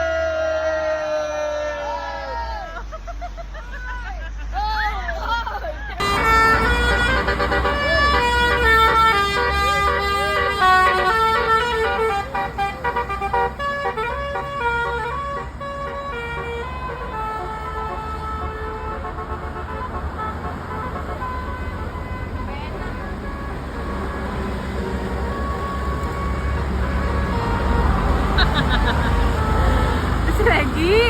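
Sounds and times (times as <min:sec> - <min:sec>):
engine rumble: 0:00.0 - 0:31.0
bus melody horn: 0:06.0 - 0:31.0.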